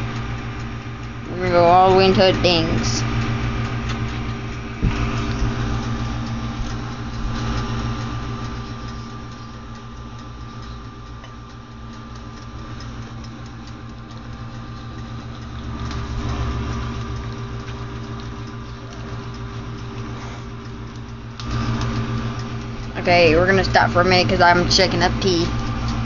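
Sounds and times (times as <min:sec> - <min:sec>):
toaster oven electrical hum: 0:00.0 - 0:26.0.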